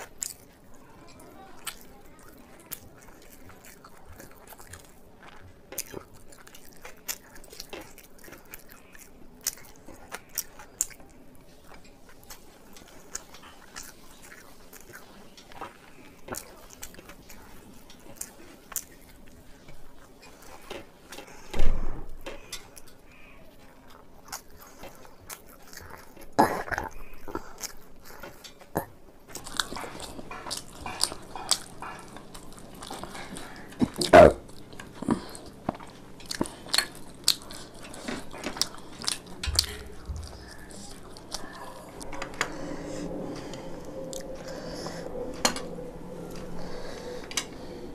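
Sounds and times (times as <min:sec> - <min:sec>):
chewing and biting food: 0:00.0 - 0:21.6, 0:22.2 - 0:45.2.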